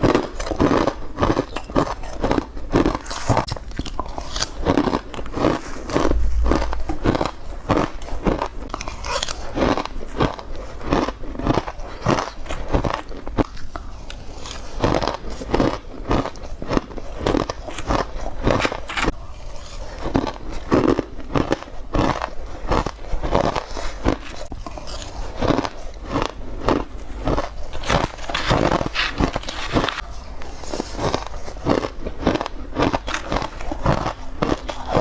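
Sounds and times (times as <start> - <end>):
ice crunching between teeth: 0.0 - 35.0.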